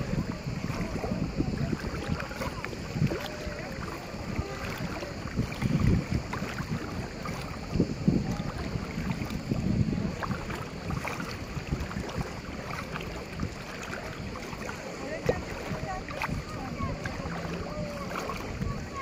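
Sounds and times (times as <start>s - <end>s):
legs wading through water: 0.0s - 19.0s
wind buffeting microphone: 0.0s - 19.0s.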